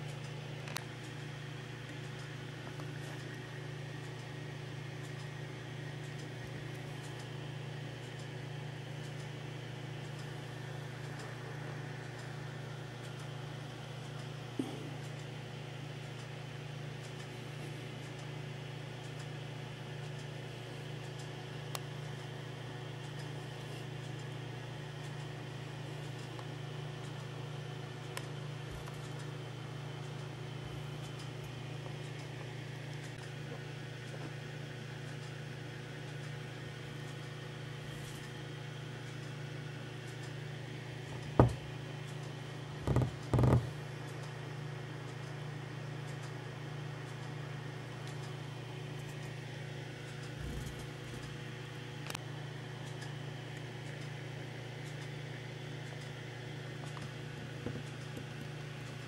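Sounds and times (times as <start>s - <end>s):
low hum with hiss: 0.0s - 59.0s.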